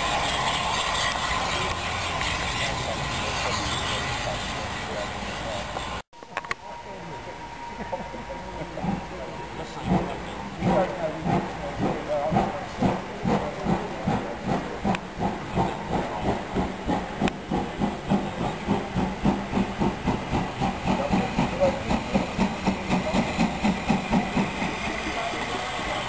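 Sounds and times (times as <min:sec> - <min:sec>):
steam locomotive chuffing: 0:00.0 - 0:06.0, 0:07.2 - 0:26.0
locomotive rumble: 0:00.0 - 0:26.0.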